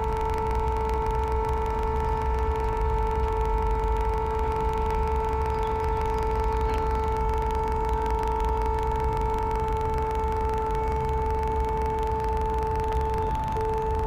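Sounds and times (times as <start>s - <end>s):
steady pure tone drone: 0.0s - 14.0s.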